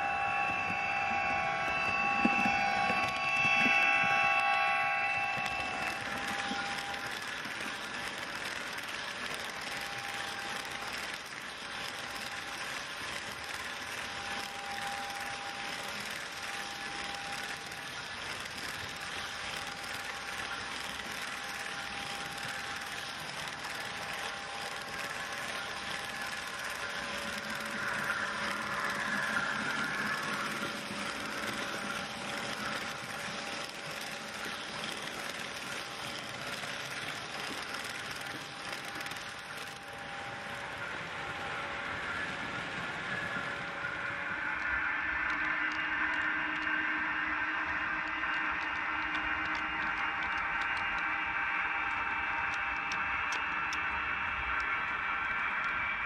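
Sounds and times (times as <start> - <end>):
faint thin whine: 0.0 - 56.0
model train wheels clattering: 0.0 - 56.0.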